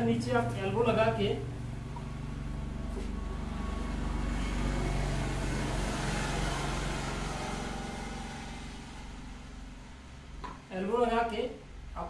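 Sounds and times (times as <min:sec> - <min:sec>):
motor vehicle passing: 0:00.0 - 0:10.7
low engine hum: 0:00.0 - 0:12.0.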